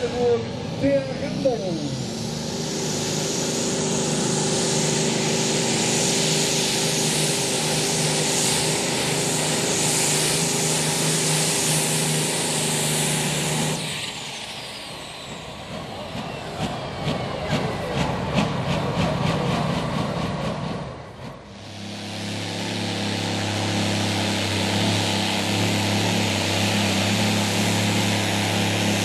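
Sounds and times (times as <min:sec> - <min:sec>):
engines winding down whine: 0:00.0 - 0:29.0
tractor engines at full throttle: 0:00.0 - 0:29.0.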